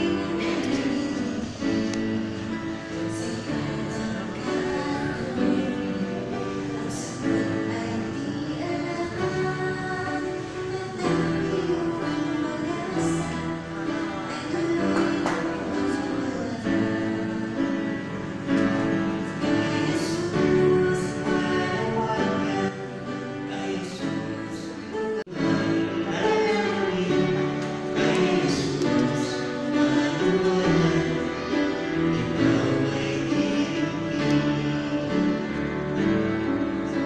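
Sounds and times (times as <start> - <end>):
guitar accompaniment: 0.0 - 37.0
man and woman singing duet: 0.0 - 37.0.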